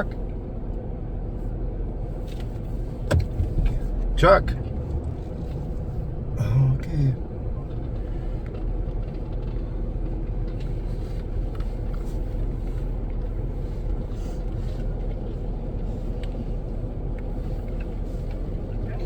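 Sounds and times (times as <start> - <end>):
low rumble in vehicle cabin: 0.0 - 19.0.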